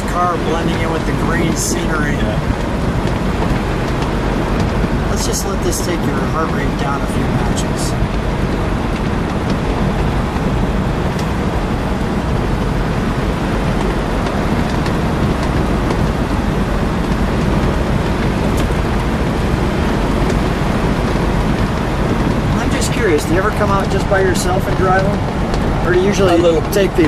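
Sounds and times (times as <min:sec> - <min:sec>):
low car engine: 0:00.0 - 0:27.0
tyre noise: 0:00.0 - 0:27.0
wind rushing: 0:00.0 - 0:27.0.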